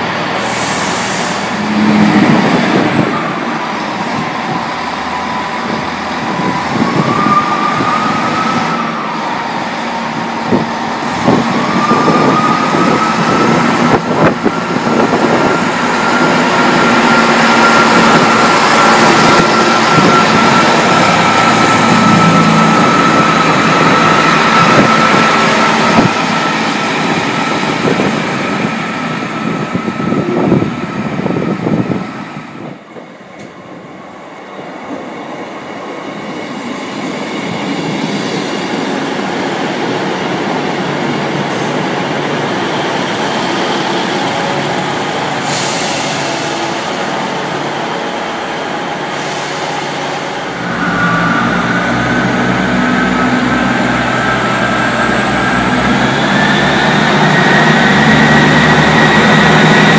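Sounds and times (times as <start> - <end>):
diesel trains running: 0.0 - 59.9.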